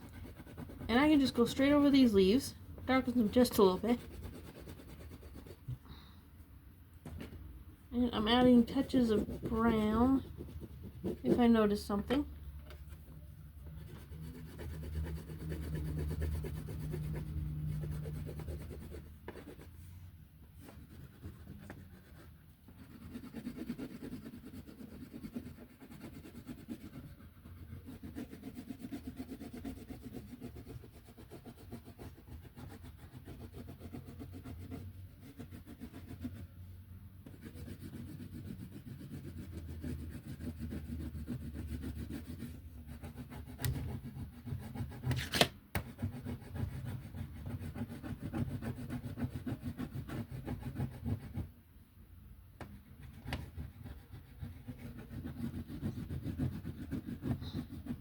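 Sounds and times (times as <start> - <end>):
colouring strokes rubbing on paper: 0.0 - 5.8, 8.0 - 51.5, 52.8 - 58.0.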